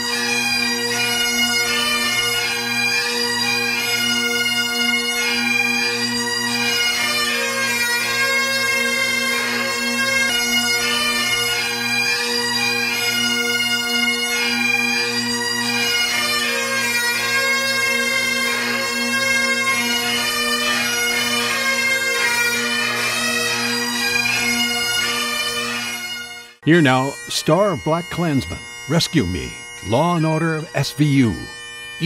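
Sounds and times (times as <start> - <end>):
bagpipes playing a tune: 0.0 - 32.0.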